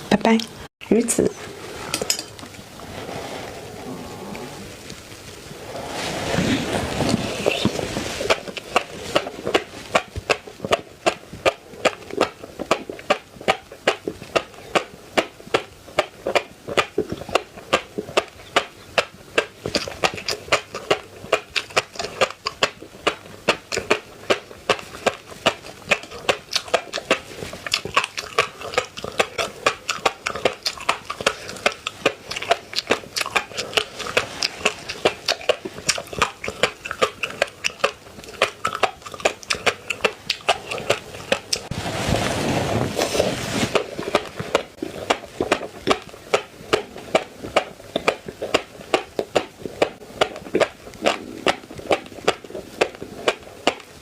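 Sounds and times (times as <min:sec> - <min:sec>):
close chewing with mouth clicks: 0:06.9 - 0:41.7, 0:43.7 - 0:54.0.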